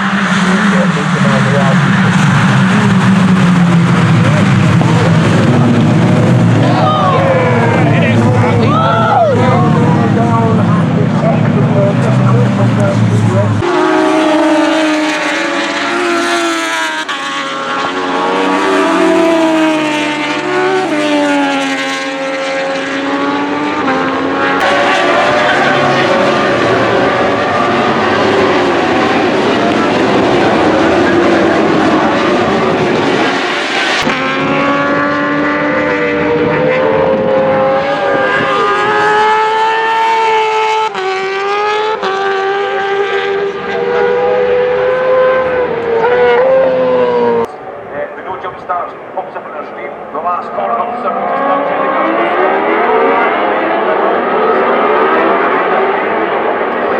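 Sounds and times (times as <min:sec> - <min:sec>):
racing engines at high revs: 0:00.0 - 0:56.9.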